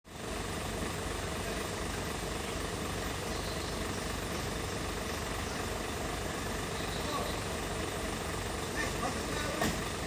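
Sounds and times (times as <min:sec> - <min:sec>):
truck engine idling: 0:00.1 - 0:10.0.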